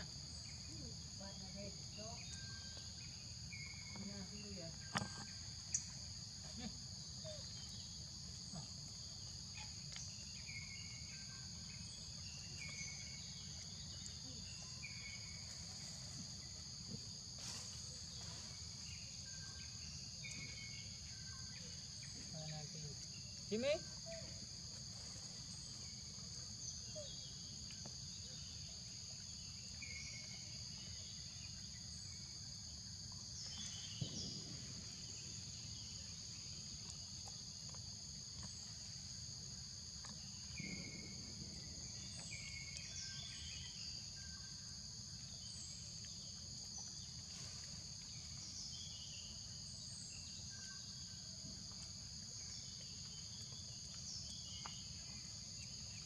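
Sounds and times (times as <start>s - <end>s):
insect chirps: 0.0s - 56.0s
insect chorus droning: 0.0s - 56.0s.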